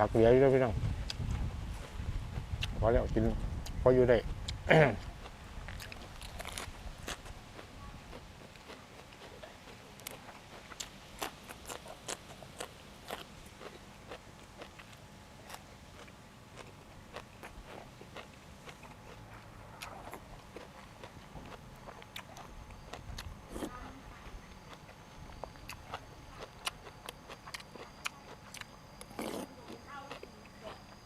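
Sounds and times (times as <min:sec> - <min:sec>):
crunchy chewing of food: 0:00.8 - 0:31.0.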